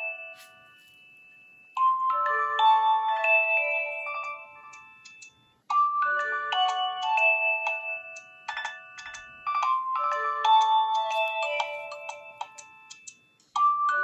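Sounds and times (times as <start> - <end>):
electronic phone ringtone: 0.0 - 14.0.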